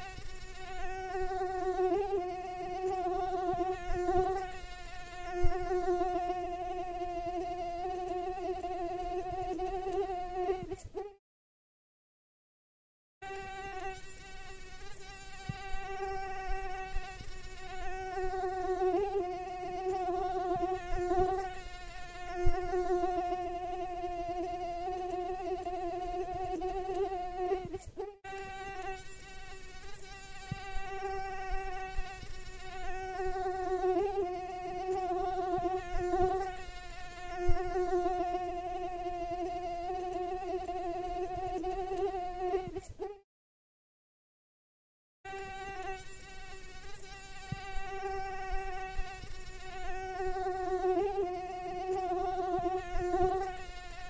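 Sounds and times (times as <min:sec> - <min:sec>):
mosquito wing whine: 0:00.0 - 0:11.2, 0:13.2 - 0:43.2, 0:45.3 - 0:54.0.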